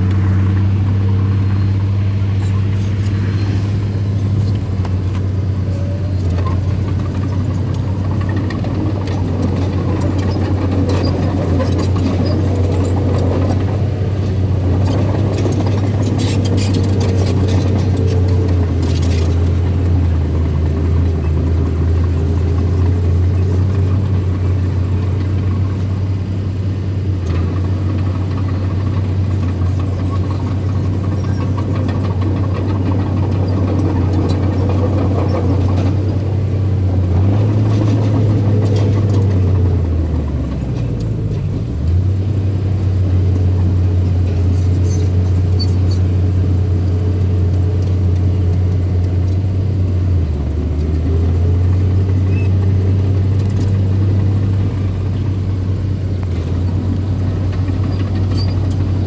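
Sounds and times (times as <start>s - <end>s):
earthmoving machine engine humming: 0.0s - 59.0s.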